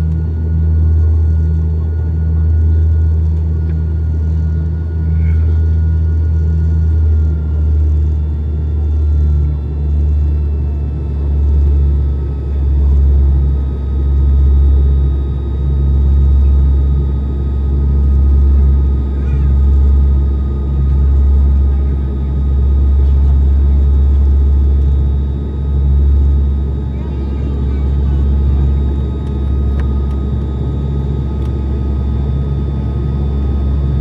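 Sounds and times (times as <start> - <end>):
airliner cabin drone: 0.0 - 34.0.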